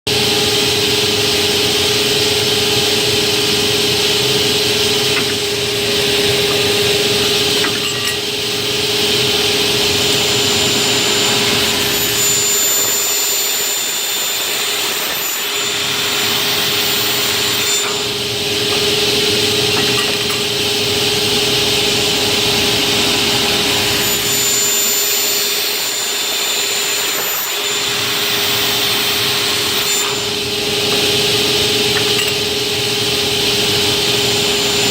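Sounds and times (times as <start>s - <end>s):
cutting saw motor whine: 0.1s - 34.9s.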